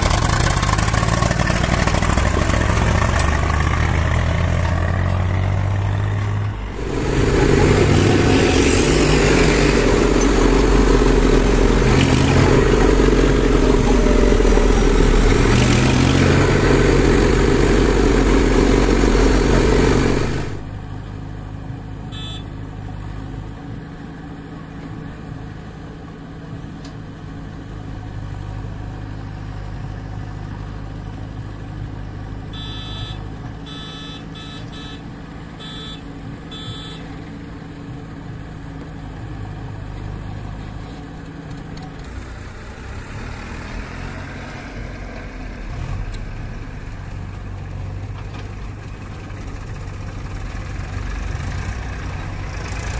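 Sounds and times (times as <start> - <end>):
diesel engines idling: 0.0 - 42.8, 45.2 - 52.9
tractor diesel engine running: 0.0 - 52.9.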